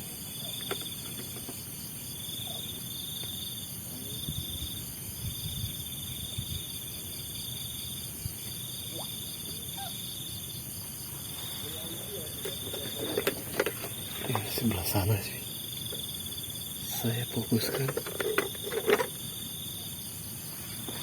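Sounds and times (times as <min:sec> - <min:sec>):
insect trilling: 0:00.0 - 0:20.8
high-pitched insect chorus: 0:00.0 - 0:21.0.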